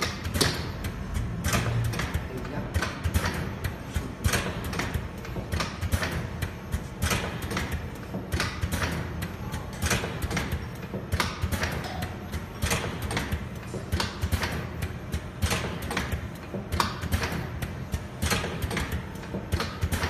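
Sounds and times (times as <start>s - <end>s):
mechanical clacks: 0.0s - 20.0s.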